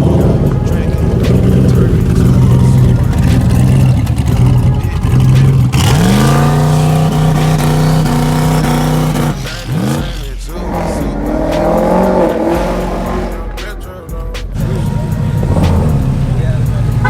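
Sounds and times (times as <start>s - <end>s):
engine revving: 0.0s - 17.0s
muscle car engine rumbling: 0.0s - 17.0s.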